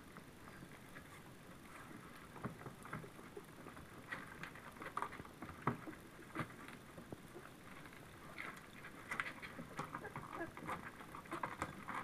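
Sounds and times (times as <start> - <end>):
puppies lapping and slurping food: 0.0 - 12.0.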